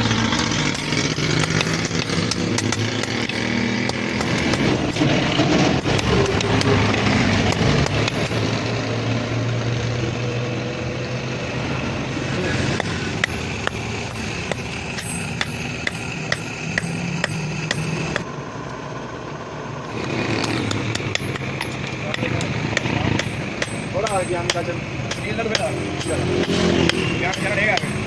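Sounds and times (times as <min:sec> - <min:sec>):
hammer striking metal: 0:00.0 - 0:09.0, 0:12.4 - 0:18.3, 0:19.9 - 0:28.0
machine droning: 0:00.0 - 0:28.0.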